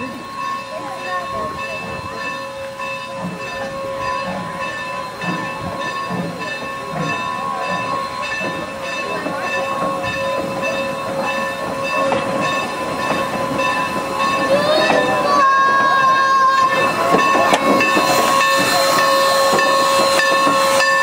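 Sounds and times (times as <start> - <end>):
steam train running: 0.0 - 21.0.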